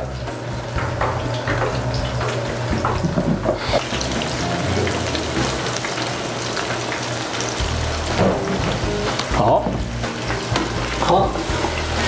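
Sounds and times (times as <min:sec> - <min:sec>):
shrimp deep-frying in hot oil: 0:00.0 - 0:12.0.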